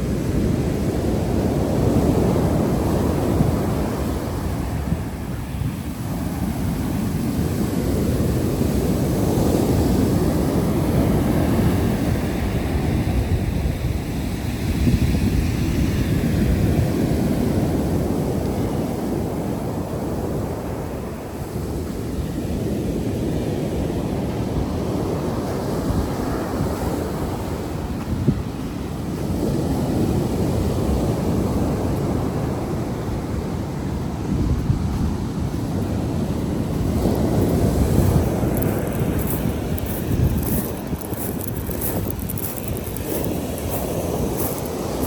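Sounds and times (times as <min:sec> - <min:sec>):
waves washing on beach: 0:00.0 - 0:45.0
wind buffeting microphone: 0:00.0 - 0:45.0.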